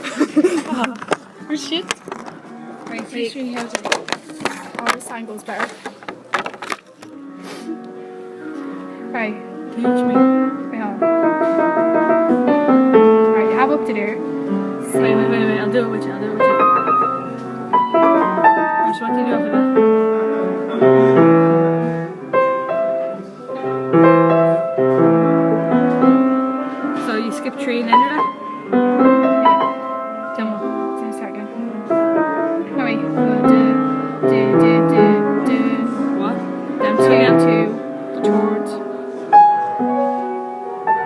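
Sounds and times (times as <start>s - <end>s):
piano notes: 6.2s - 41.0s.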